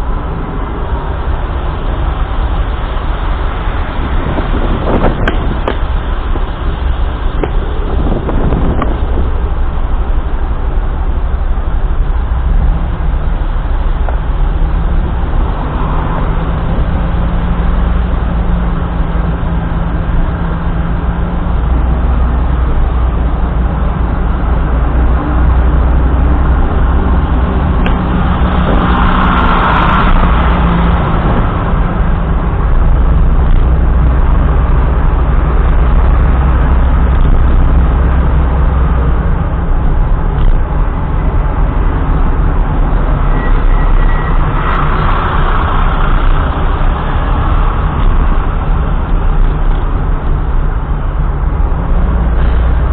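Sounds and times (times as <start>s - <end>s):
car engine and road rumble: 0.0s - 52.9s
passing vehicle: 0.0s - 52.9s.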